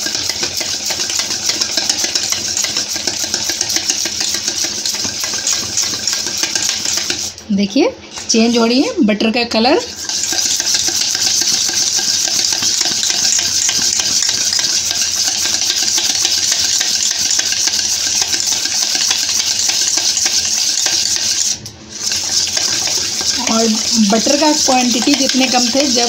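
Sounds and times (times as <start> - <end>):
whisk scraping metal bowl: 0.0 - 7.4, 8.1 - 26.0.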